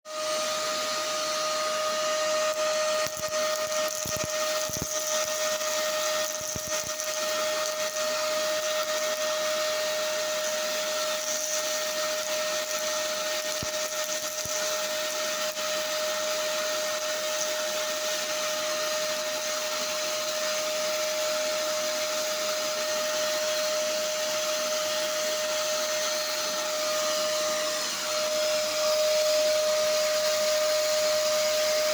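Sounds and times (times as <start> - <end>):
vacuum cleaner running: 0.1 - 31.9.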